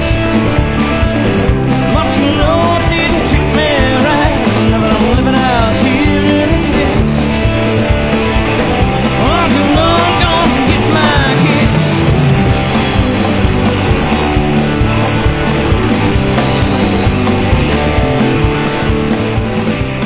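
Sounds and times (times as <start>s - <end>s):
rock music with singing: 0.0s - 20.0s.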